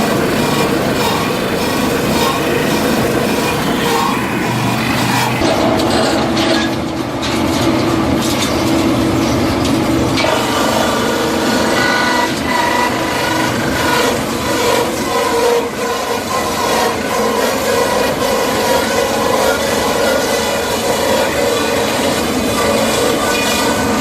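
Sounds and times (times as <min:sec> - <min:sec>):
high metallic whine: 0:00.0 - 0:24.0
wood crusher grinding clatter: 0:00.0 - 0:24.0.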